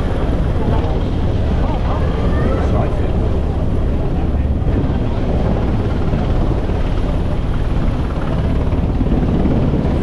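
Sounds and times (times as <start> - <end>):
helicopter rotor chopping: 0.0 - 10.0.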